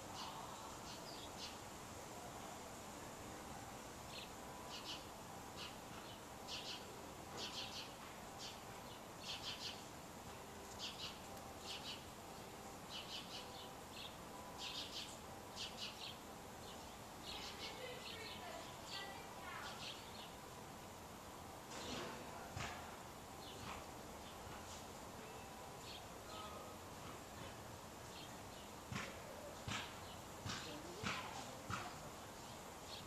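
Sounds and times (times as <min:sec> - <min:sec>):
small birds chirping: 0:00.0 - 0:01.7, 0:04.0 - 0:10.0, 0:10.6 - 0:20.5, 0:21.7 - 0:33.0
steady outdoor hiss: 0:00.0 - 0:33.0.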